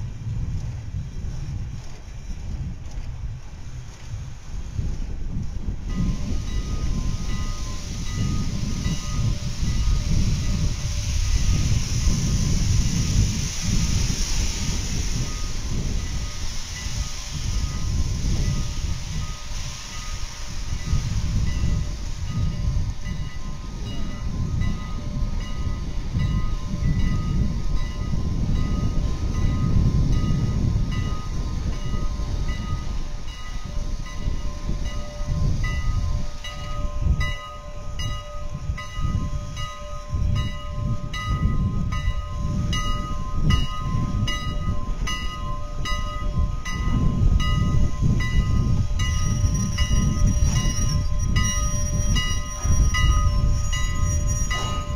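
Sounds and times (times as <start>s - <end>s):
steam locomotive rumble: 0.0s - 54.9s.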